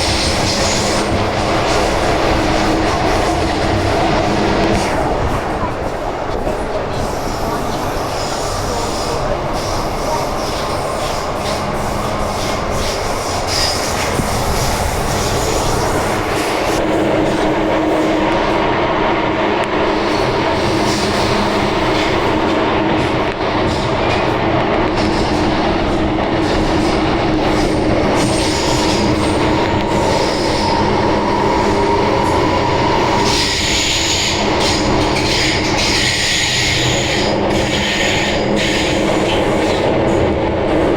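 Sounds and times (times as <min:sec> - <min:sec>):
train wheel-on-rail rolling noise: 0:00.0 - 0:40.9.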